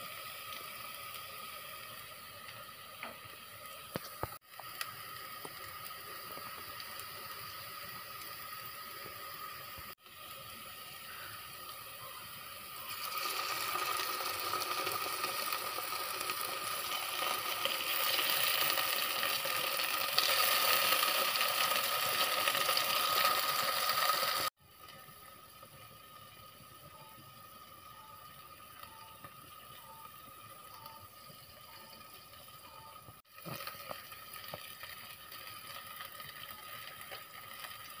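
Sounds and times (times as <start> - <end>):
onions sizzling in hot oil: 0.0 - 38.0.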